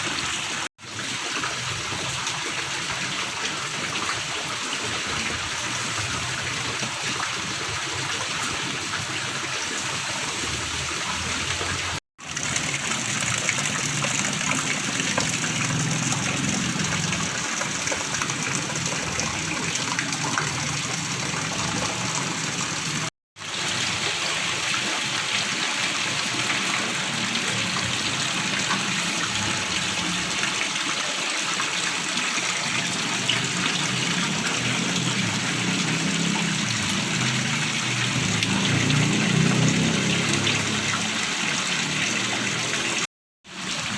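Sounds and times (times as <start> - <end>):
stream gurgling over stones: 0.0 - 43.9.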